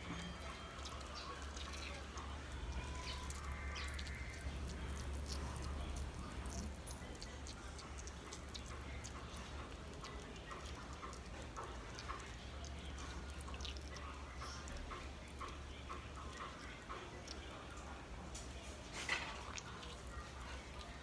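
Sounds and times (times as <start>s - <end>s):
water dripping and splashing on soil: 0.4s - 17.9s.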